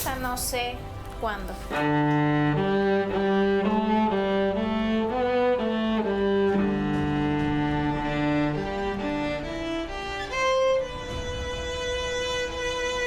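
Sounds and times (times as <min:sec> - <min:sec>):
bowed string instruments playing: 0:00.0 - 0:13.0.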